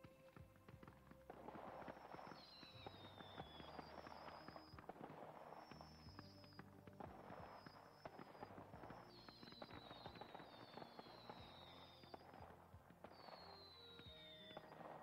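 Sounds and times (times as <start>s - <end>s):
fireworks crackling: 0.0s - 15.0s
low tape hum: 0.0s - 15.0s
falling firework whistles: 1.4s - 15.0s.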